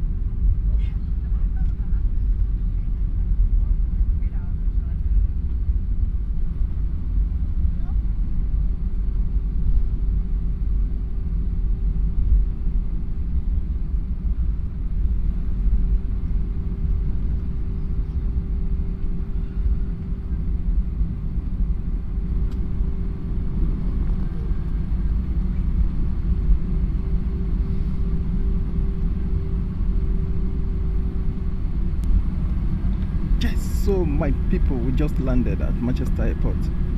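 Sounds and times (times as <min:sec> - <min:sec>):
airliner low rumble: 0:00.0 - 0:36.9.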